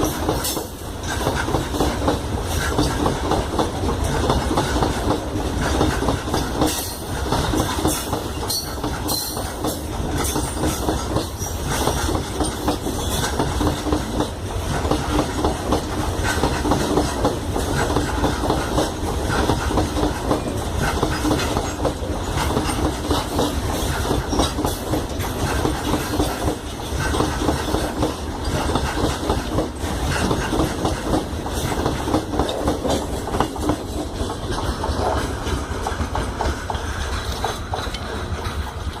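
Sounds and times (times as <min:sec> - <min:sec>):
deep train rumble: 0:00.0 - 0:39.0
train wheels clattering over rail joints: 0:00.0 - 0:39.0.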